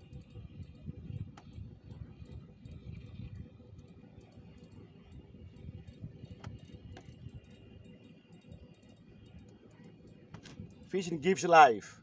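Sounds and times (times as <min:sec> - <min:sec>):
fishing reel clicking: 0:00.0 - 0:11.1.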